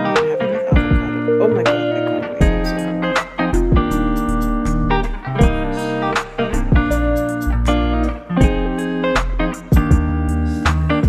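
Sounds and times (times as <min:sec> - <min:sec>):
plucked guitar: 0:00.0 - 0:11.0
steady beat: 0:00.0 - 0:11.0
deep bass line: 0:00.7 - 0:11.0.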